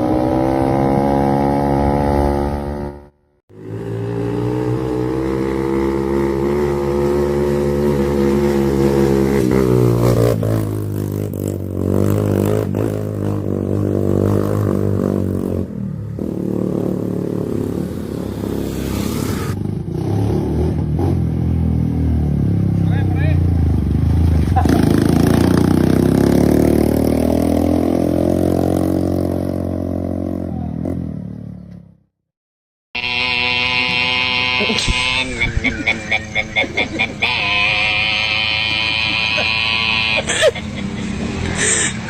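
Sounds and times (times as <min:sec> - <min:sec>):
motorcycle engine revving: 0:00.0 - 0:32.1, 0:33.0 - 0:42.0.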